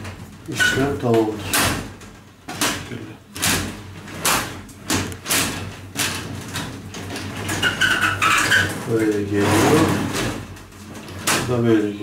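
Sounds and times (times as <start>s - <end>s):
shower door sliding on track: 0.0s - 12.0s.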